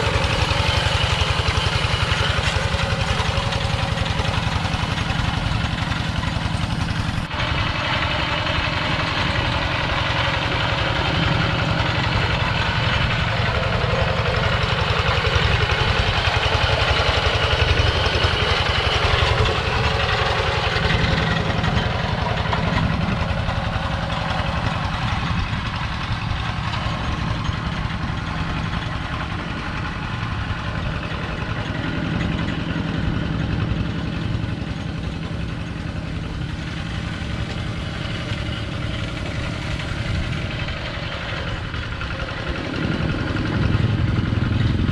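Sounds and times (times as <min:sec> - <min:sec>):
walking tractor engine running: 0:00.0 - 0:44.9.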